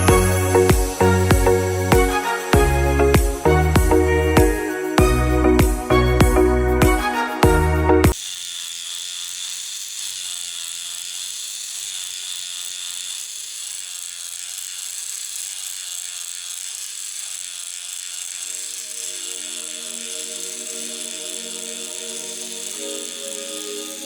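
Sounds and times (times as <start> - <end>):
small electric motor whirring: 0.0 - 7.5, 8.1 - 24.0.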